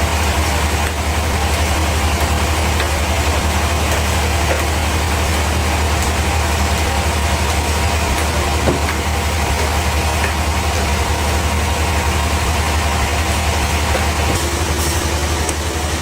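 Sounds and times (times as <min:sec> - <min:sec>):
sawmill machinery droning: 0:00.0 - 0:16.0.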